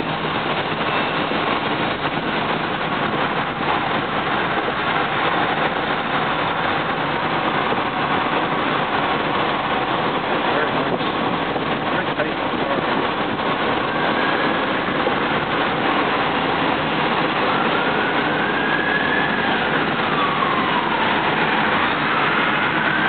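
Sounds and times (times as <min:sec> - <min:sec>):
electric drivetrain whine: 0:00.0 - 0:23.0
road and wind noise: 0:00.0 - 0:23.0.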